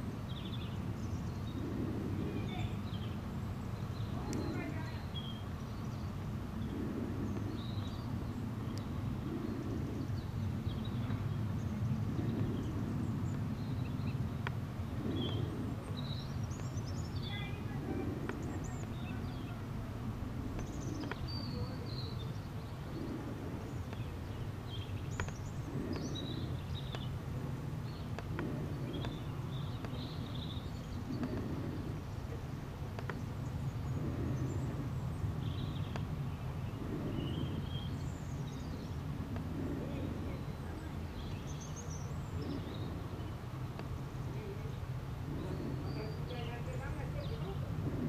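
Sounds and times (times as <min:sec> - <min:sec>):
low outdoor rumble: 0:00.0 - 0:48.0
small birds chirping: 0:00.0 - 0:48.0.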